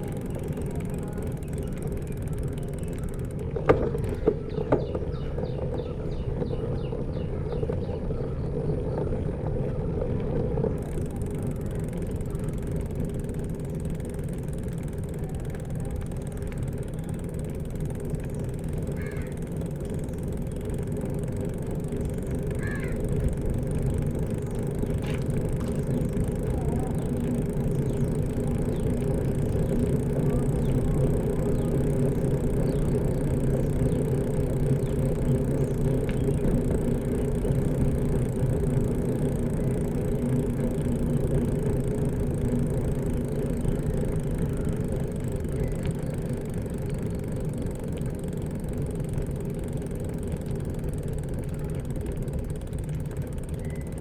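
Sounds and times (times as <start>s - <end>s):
bicycle road noise: 0.0s - 54.0s
vehicle engine rumble: 0.0s - 54.0s.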